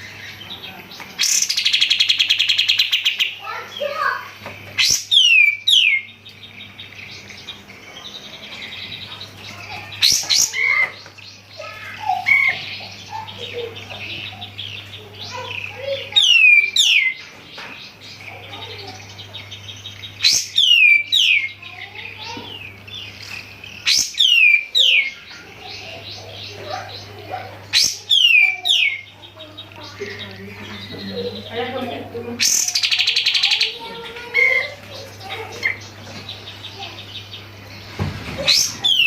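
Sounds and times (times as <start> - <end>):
bulbul singing: 0.0 - 39.0
low electrical hum: 0.0 - 39.0.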